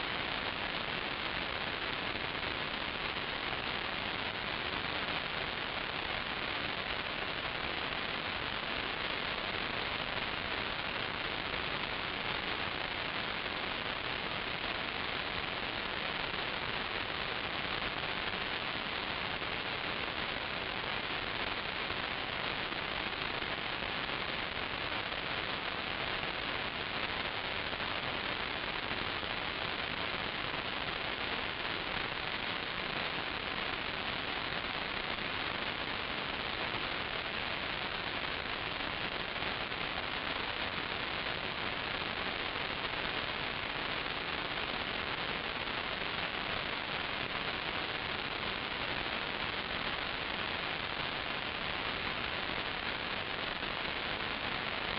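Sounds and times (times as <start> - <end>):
steady static hiss: 0.0 - 54.9.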